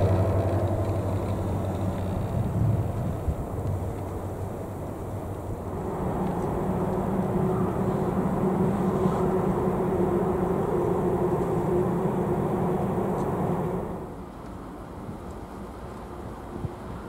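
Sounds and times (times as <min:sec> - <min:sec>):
freight locomotive engine drone: 0:00.0 - 0:17.0.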